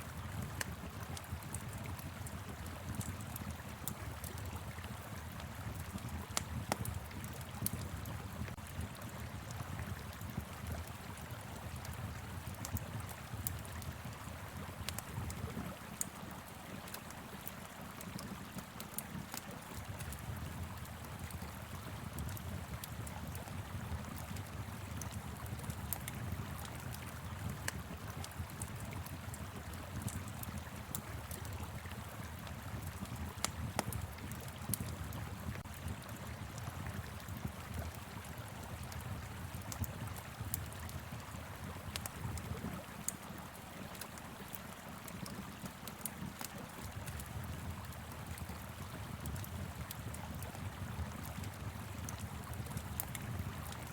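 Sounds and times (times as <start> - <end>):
wood fire crackling and popping: 0.2 - 53.9.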